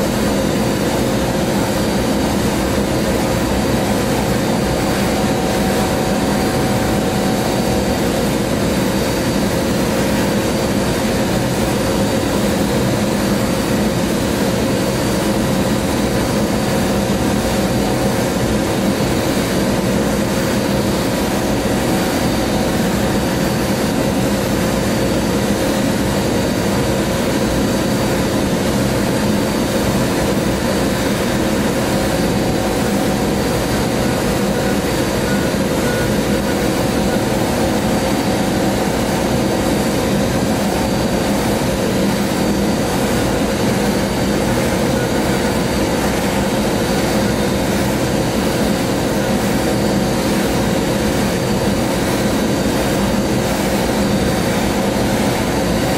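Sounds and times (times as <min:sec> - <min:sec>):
steady hum: 0:00.0 - 0:55.9.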